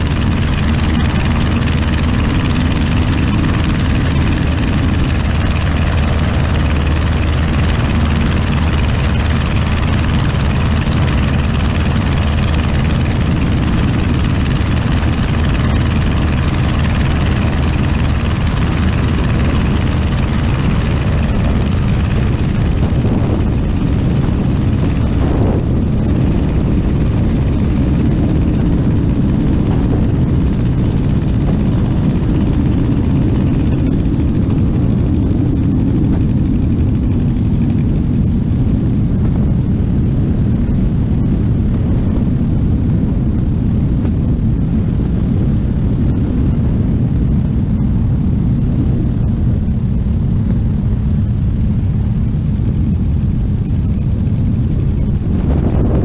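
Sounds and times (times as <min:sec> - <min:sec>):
light plane engine drone: 0:00.0 - 0:56.0
rushing air: 0:00.0 - 0:56.0.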